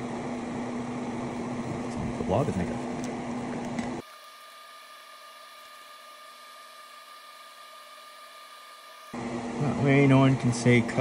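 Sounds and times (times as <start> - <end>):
fan-like noise: 0.0 - 11.0
room hum and hiss: 0.0 - 11.0.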